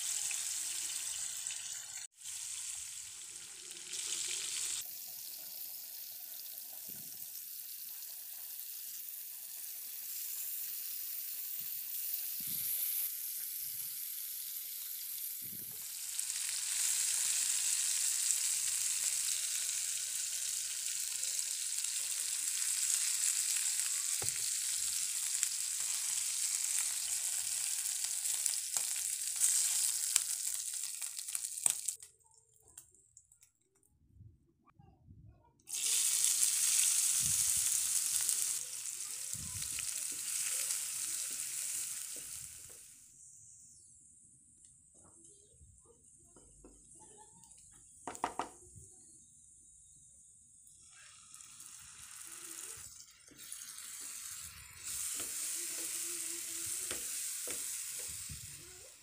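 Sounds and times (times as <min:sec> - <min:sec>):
fish sizzling in hot oil: 0:00.0 - 0:32.0, 0:35.7 - 0:43.3, 0:50.6 - 0:59.0.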